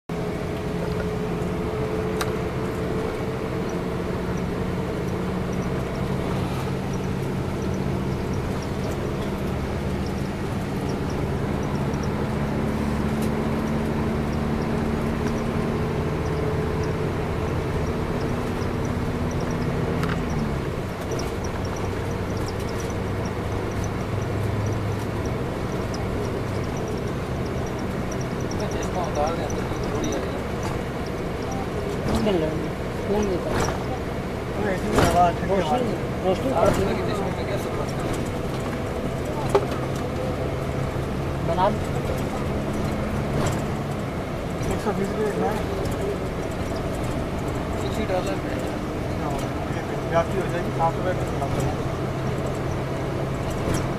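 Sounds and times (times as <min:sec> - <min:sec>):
bus engine hum: 0:00.0 - 0:53.9
road noise: 0:00.0 - 0:53.9.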